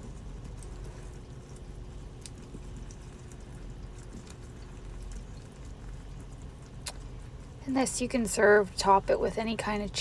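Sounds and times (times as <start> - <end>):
spatula scraping and ticking: 0.0 - 10.0.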